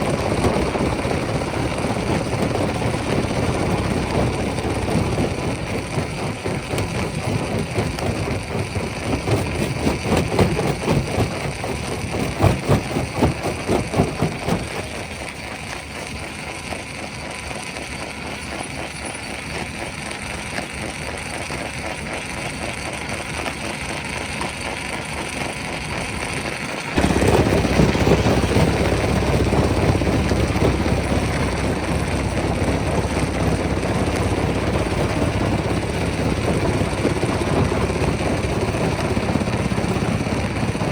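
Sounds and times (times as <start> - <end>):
rock-crushing machine running: 0.0 - 40.9.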